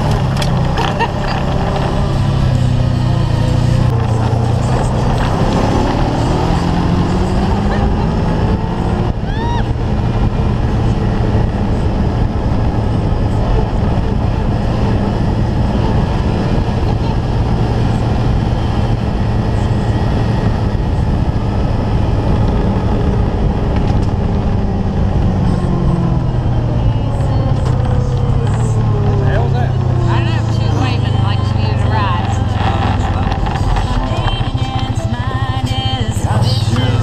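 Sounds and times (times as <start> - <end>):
wind noise: 0.0 - 35.4
engine running steadily: 0.0 - 37.0
road noise: 0.0 - 37.0.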